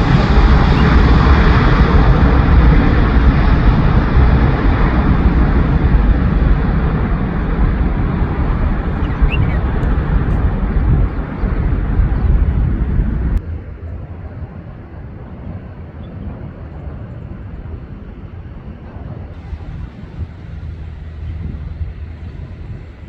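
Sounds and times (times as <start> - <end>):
jet airliner engines rumbling: 0.0 - 23.0.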